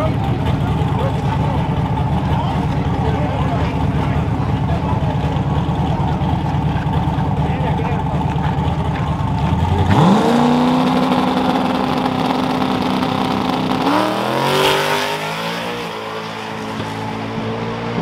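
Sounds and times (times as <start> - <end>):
race truck engine revving: 0.0 - 18.0.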